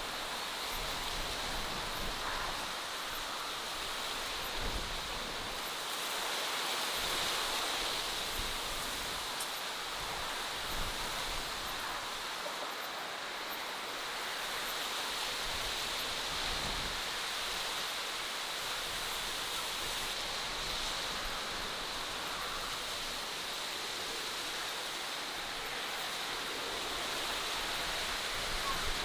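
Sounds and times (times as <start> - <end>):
rushing nature hiss: 0.0 - 29.0.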